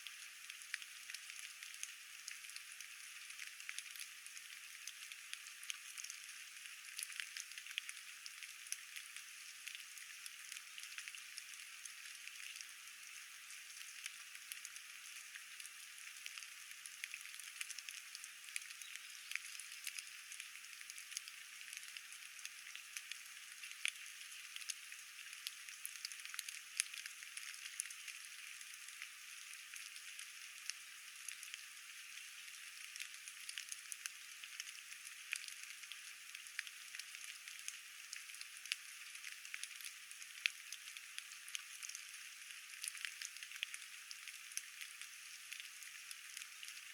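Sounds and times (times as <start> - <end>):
rain hiss with drop ticks: 0.0 - 46.9.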